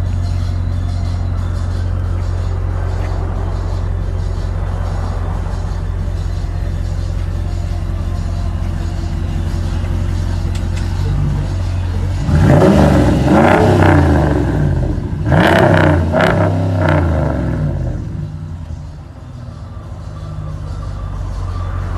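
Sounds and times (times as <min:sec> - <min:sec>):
engine idling and revving: 0:00.0 - 0:21.9.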